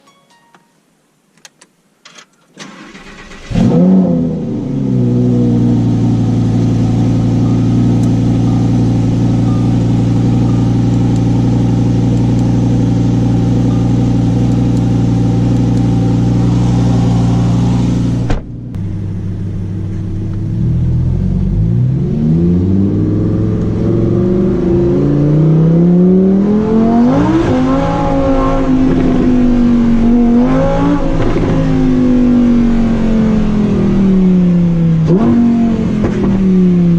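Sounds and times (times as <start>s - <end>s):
car engine starting and idling: 2.1s - 36.9s
car engine revving: 2.6s - 36.9s.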